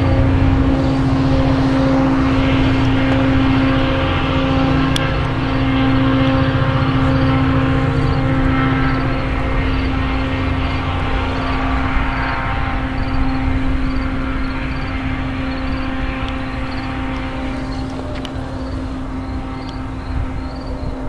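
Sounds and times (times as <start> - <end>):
diesel train engine hum: 0.0 - 21.0
train wheel rumble: 0.0 - 21.0.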